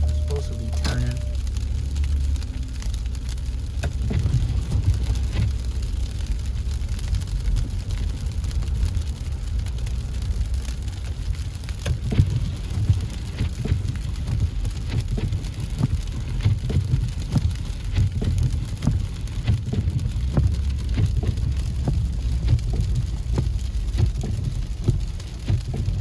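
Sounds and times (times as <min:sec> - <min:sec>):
car rumbling on road: 0:00.0 - 0:26.0
ice ticking on car: 0:00.0 - 0:26.0.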